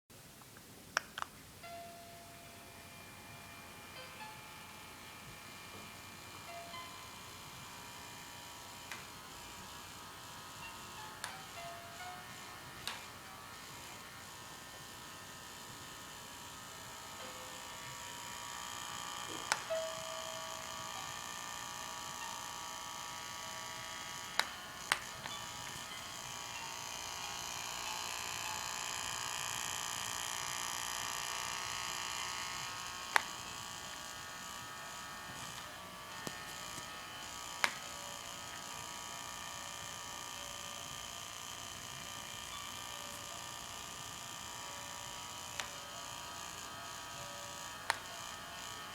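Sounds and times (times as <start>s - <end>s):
baby mobile motor whine: 1.6s - 48.9s.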